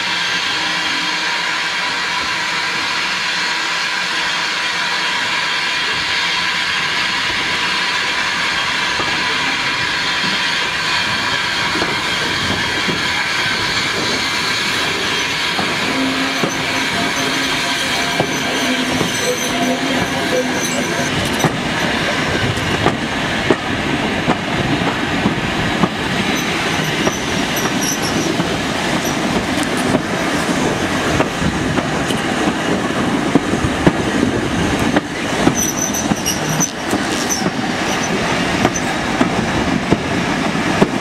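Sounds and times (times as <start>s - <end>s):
train running noise hiss: 0.0s - 41.0s.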